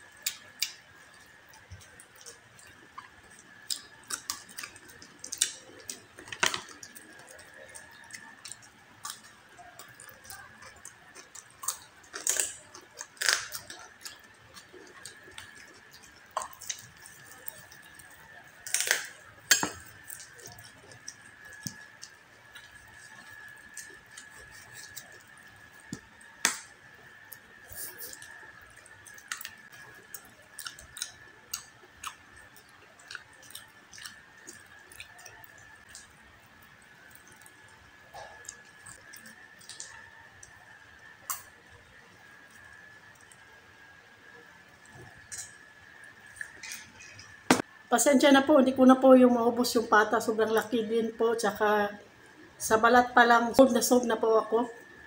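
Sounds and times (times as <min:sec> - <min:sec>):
chewing with wet mouth clicks: 0:00.1 - 0:43.5, 0:44.7 - 0:47.4.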